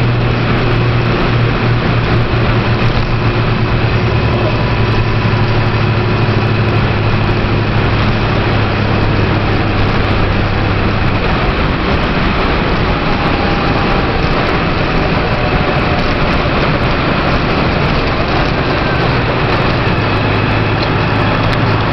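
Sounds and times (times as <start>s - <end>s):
car road noise inside cabin: 0.0s - 21.9s
low engine hum: 0.0s - 21.9s.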